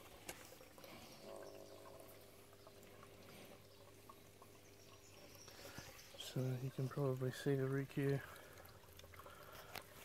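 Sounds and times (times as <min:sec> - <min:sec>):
faint water trickle: 0:00.0 - 0:10.0
low steady hum: 0:00.0 - 0:10.0.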